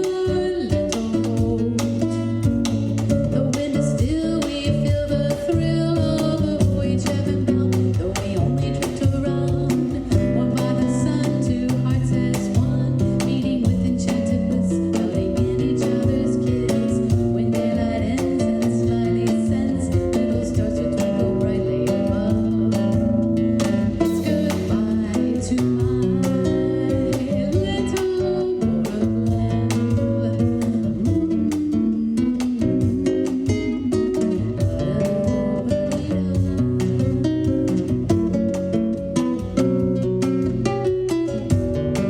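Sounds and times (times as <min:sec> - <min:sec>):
acoustic guitar music: 0:00.0 - 0:42.0.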